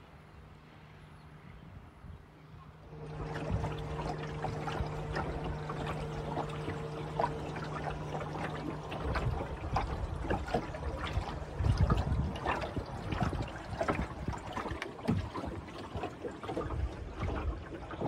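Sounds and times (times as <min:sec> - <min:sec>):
faint steady hum: 0:00.0 - 0:15.8
water lapping against wooden hull: 0:02.6 - 0:18.0.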